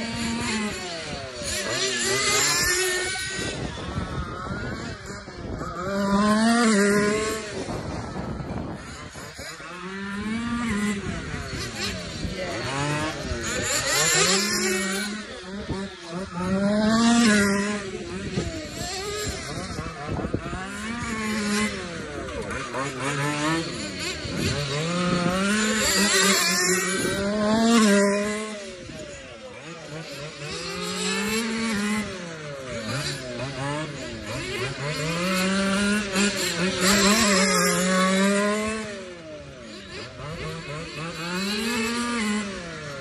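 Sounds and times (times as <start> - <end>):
model car engines revving: 0.0 - 43.0.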